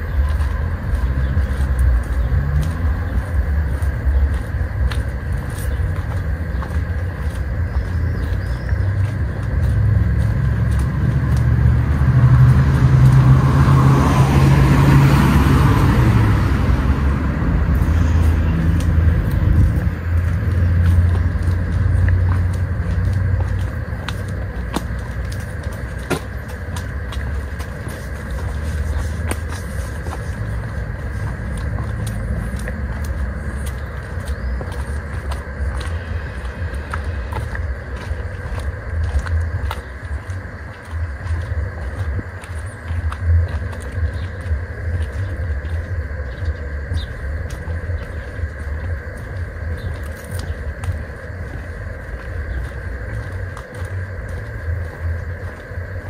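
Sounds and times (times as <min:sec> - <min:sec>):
car passing: 0:00.0 - 0:49.9
steady low rumble: 0:00.0 - 0:56.0.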